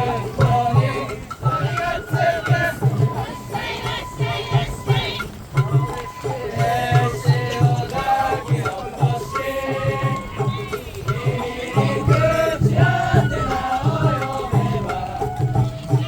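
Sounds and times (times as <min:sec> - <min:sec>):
bamboo flute melody: 0:00.0 - 0:16.0
taiko drumbeats: 0:00.0 - 0:16.0.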